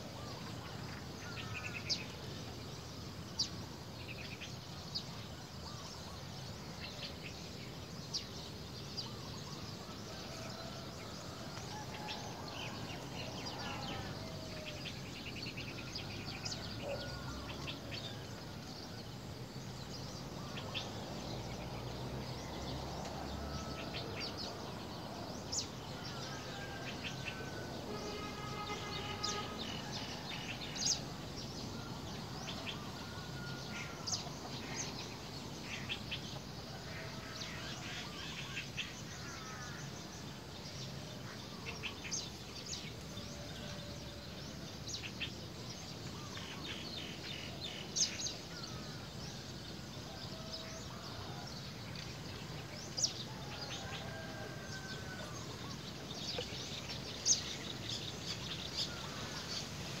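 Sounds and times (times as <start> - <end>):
outdoor background hiss: 0.0 - 60.0.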